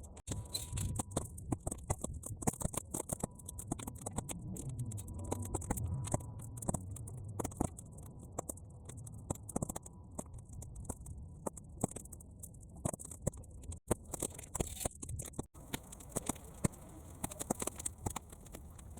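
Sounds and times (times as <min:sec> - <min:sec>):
bonfire snapping and popping: 0:00.1 - 0:18.9
low fire rumble: 0:00.1 - 0:18.9.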